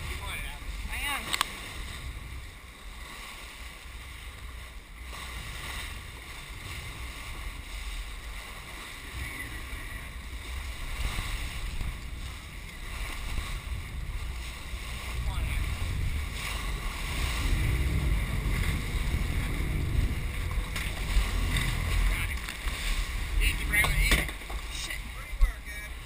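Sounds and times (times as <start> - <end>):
boat engine rumble: 0.0 - 26.0
wake water rushing: 0.0 - 26.0.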